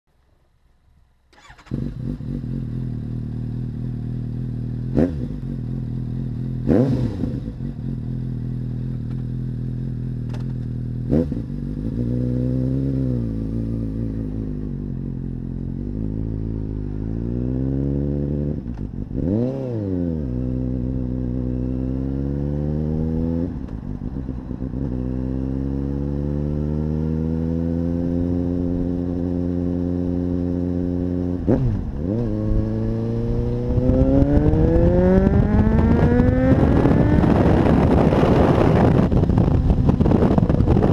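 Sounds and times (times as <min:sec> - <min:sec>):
motorcycle engine revving: 0:01.3 - 0:40.9.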